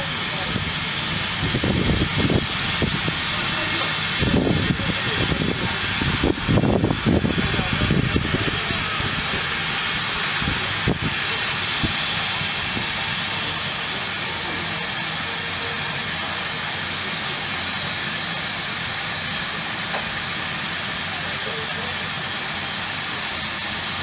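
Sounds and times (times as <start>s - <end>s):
steam hissing from locomotive: 0.0s - 24.0s.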